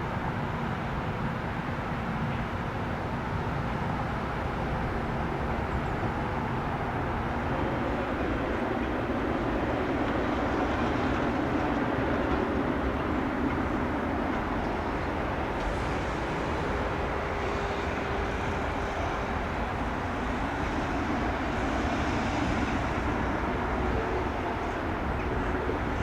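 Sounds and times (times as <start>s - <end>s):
jet engines rumbling: 5.1s - 26.0s.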